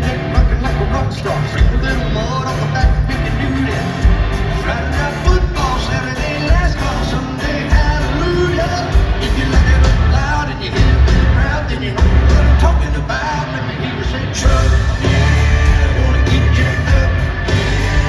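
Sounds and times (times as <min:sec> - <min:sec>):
heavy drums: 0:00.0 - 0:13.3, 0:14.4 - 0:18.0
bass: 0:00.0 - 0:18.0
live country rock band: 0:00.0 - 0:18.0
man singing lead vocal: 0:00.0 - 0:18.0.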